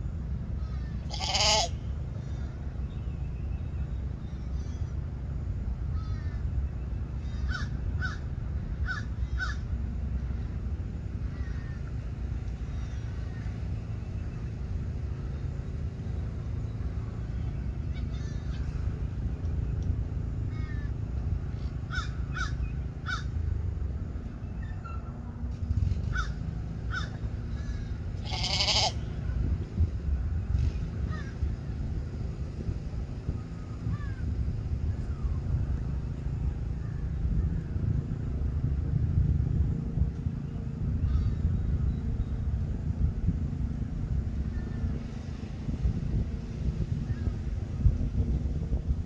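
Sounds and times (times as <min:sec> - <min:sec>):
birds calling: 0:00.0 - 0:38.0, 0:40.4 - 0:48.2
wind buffeting microphone: 0:00.0 - 0:49.0.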